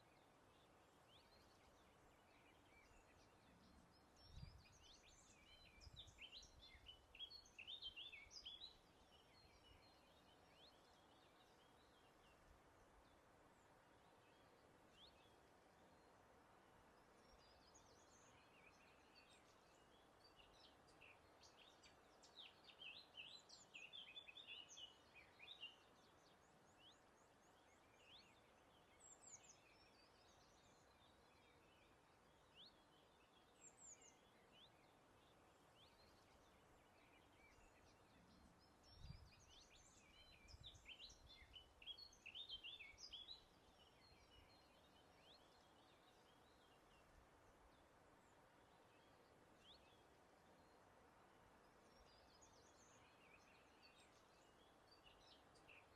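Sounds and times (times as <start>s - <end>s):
soft steady hiss: 0.0s - 55.9s
songbird chirps and trills: 0.0s - 55.9s.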